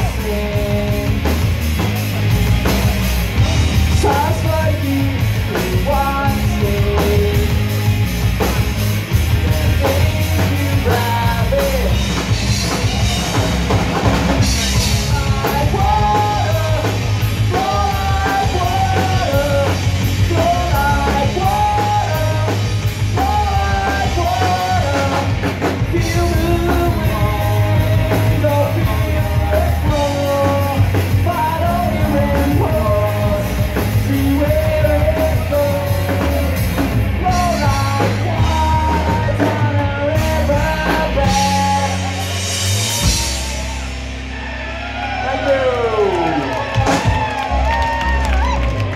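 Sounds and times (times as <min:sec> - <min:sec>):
man singing: 0:00.0 - 0:02.0, 0:02.6 - 0:13.4, 0:14.4 - 0:43.5
live rock band playing: 0:00.0 - 0:48.9.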